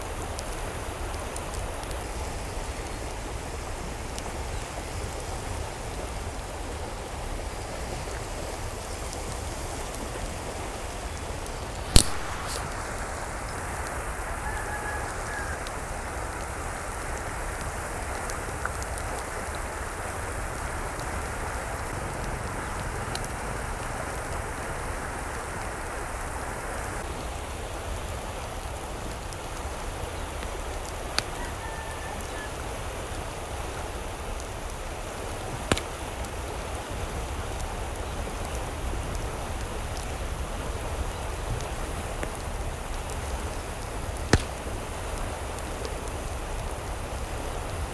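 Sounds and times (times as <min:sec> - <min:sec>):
water rushing: 0:00.0 - 0:47.9.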